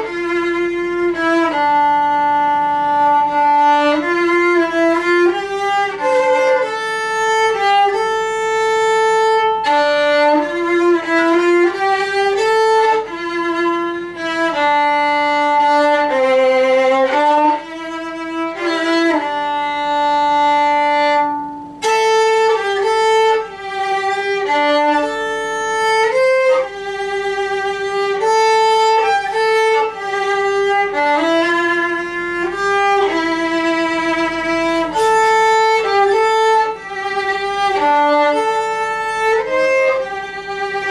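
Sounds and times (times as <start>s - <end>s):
violin melody: 0.0s - 40.9s.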